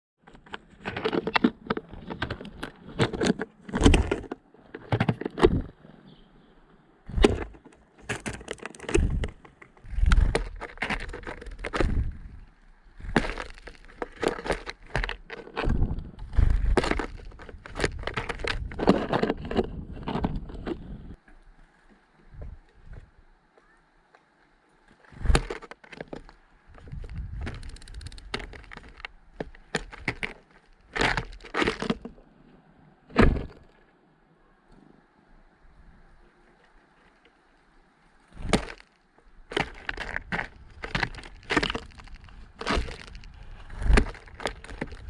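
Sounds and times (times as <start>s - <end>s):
birds pecking at seeds: 0.3s - 32.3s, 35.7s - 45.0s.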